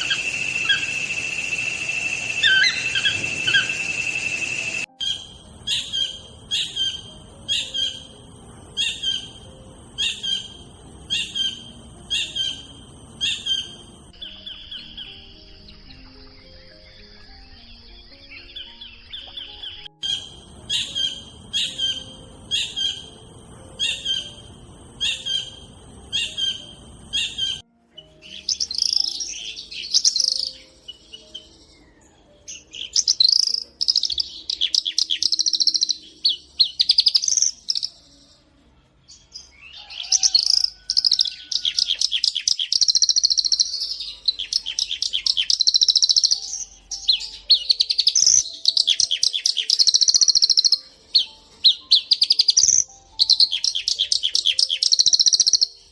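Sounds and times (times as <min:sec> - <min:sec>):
bird fast high twittering song: 0:00.0 - 0:23.2, 0:23.8 - 0:27.6, 0:28.2 - 0:38.2, 0:39.2 - 0:55.9.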